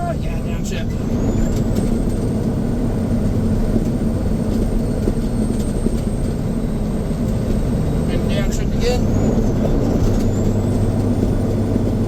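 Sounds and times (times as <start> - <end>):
truck diesel engine drone: 0.0 - 12.0.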